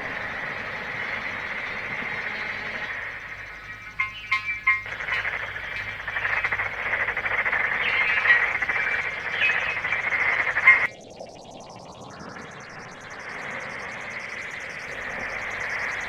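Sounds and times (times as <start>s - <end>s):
chorus of pulsing croaking calls: 0.0s - 10.9s, 13.3s - 16.0s.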